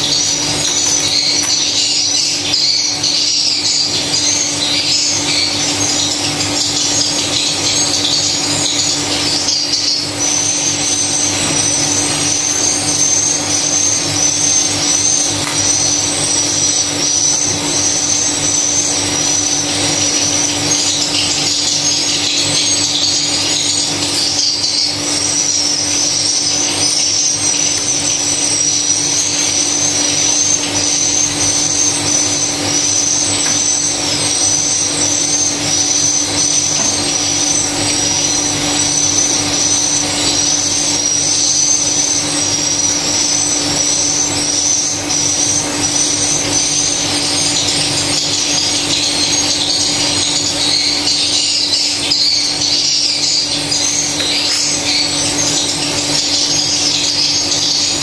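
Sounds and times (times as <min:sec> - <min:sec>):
swiftlets chirping: 0:00.0 - 0:58.0.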